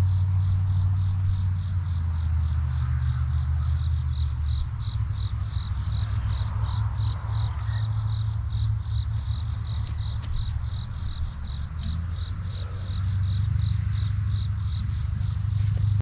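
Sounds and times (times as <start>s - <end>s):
insect chirping: 0.0s - 16.0s
low steady rumble: 0.0s - 16.0s.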